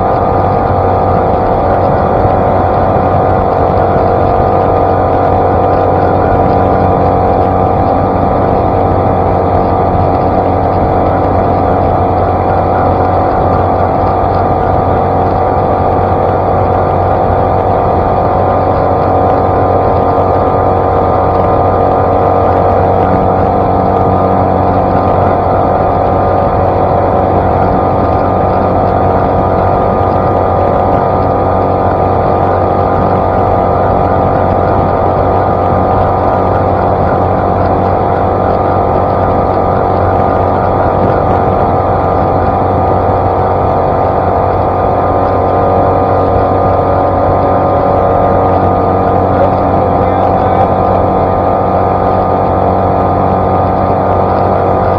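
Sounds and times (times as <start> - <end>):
outboard motor running: 0.0 - 54.9
water rushing off hull: 0.0 - 54.9.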